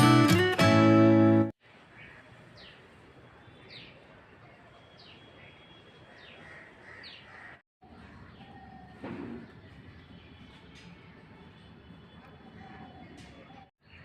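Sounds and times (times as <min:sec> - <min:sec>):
outdoor background noise: 0:01.6 - 0:14.0.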